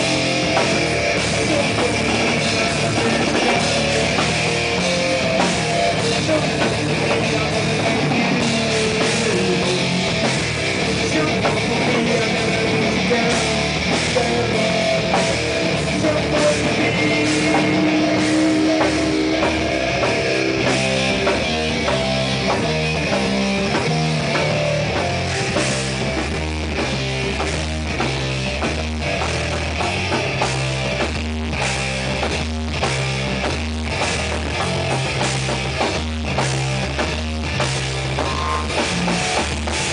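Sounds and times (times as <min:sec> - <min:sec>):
distorted electric guitar: 0:00.0 - 0:39.9
drum kit: 0:00.0 - 0:39.9
electric bass: 0:00.0 - 0:39.9.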